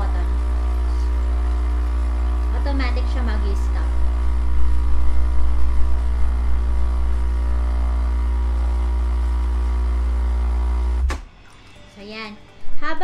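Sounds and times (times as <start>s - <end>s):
coffee machine pump humming: 0.0s - 11.1s
water pouring into a mug: 0.0s - 11.9s.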